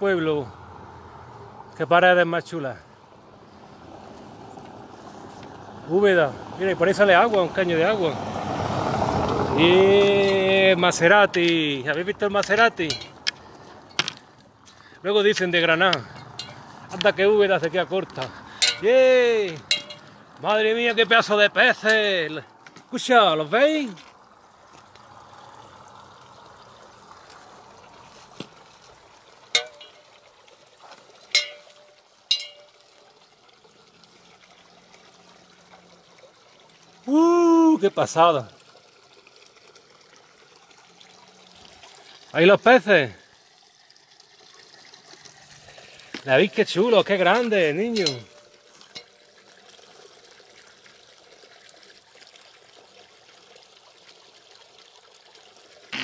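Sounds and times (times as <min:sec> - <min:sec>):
water trickling into trough: 0:03.2 - 0:56.0.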